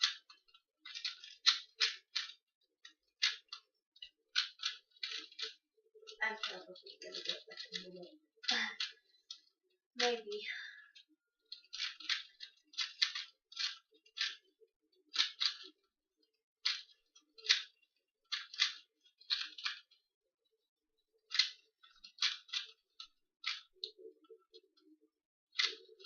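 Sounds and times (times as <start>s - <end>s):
puzzle cube layers clicking: 0.0s - 20.1s, 21.1s - 26.0s.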